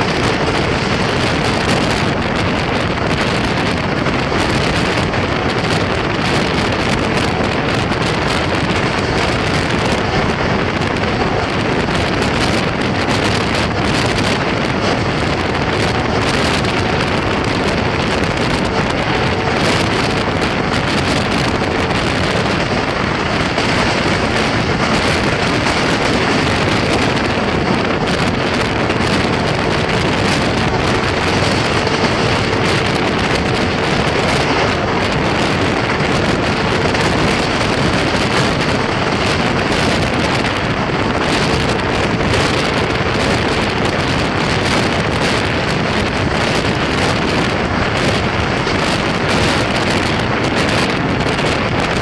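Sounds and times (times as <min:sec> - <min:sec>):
train wheels running on track: 0:00.0 - 0:52.0
wind rushing on microphone: 0:00.0 - 0:52.0.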